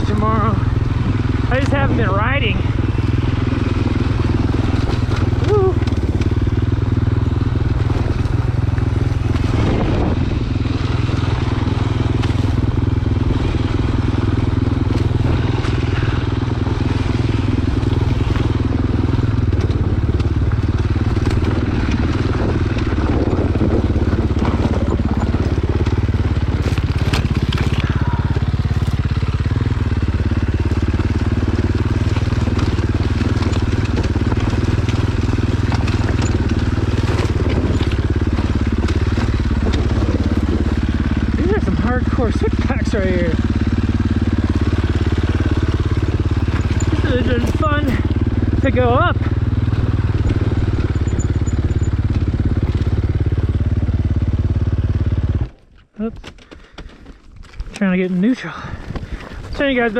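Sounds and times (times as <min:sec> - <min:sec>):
crunching and scraping on trail: 0:00.0 - 0:59.9
dirt bike engine: 0:00.0 - 0:59.9.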